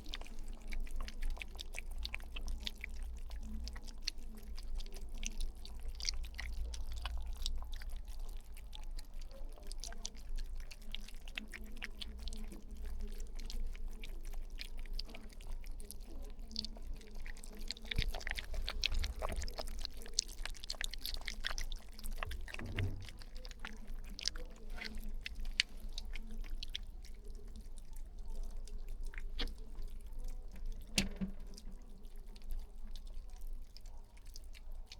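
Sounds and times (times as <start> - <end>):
puppies feeding wet smacking: 0.0 - 34.9.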